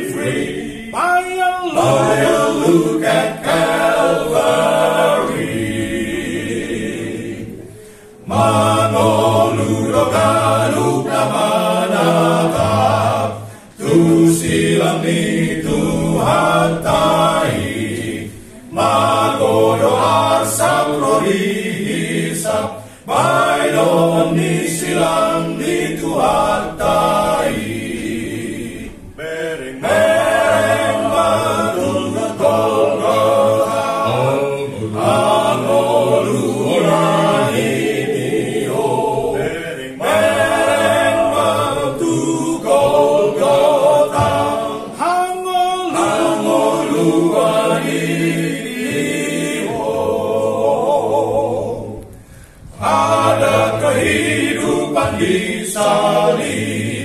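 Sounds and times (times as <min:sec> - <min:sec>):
male choir singing a hymn: 0:00.0 - 0:57.0.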